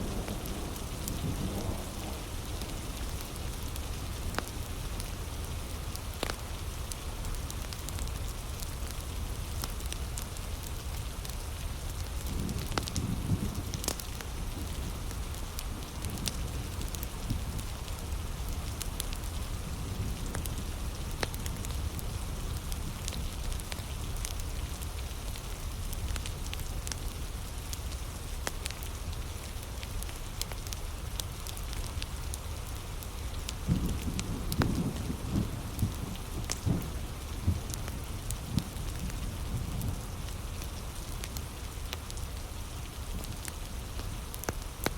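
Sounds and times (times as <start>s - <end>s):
heavy rain: 0.0s - 44.9s
wood fire crackling: 0.0s - 44.9s.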